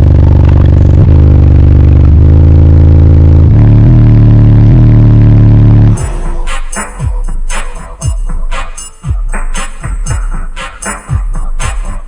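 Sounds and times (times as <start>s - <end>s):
deep bass from subwoofers: 0.0s - 12.0s.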